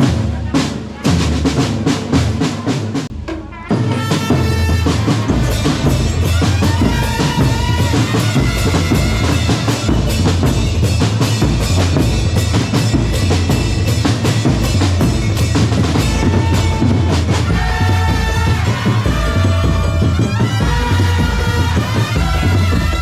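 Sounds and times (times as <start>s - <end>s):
bass drums and snares: 0.0s - 23.0s.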